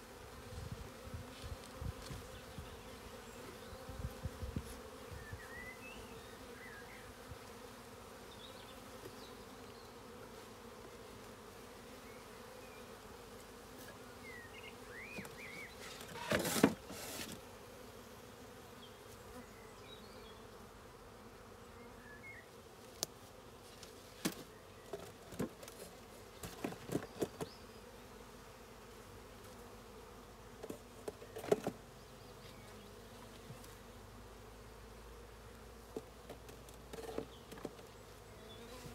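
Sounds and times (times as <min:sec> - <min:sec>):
bees buzzing: 0:00.0 - 0:38.9.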